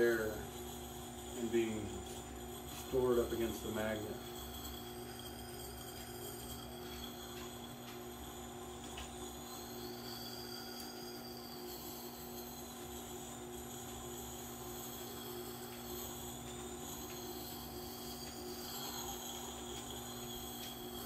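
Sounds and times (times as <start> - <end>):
grinder motor humming: 0.0 - 21.0.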